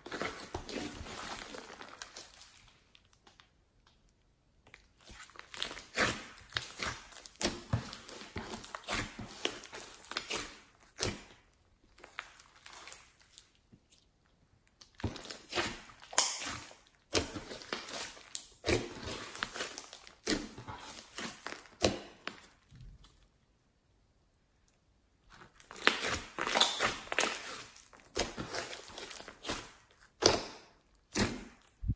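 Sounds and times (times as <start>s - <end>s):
hands squishing sticky slime: 0.0s - 23.2s, 25.2s - 31.9s.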